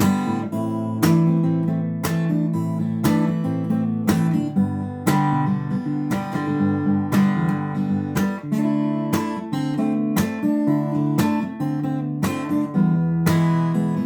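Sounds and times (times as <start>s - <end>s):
fingerpicked acoustic guitar: 0.0s - 14.0s.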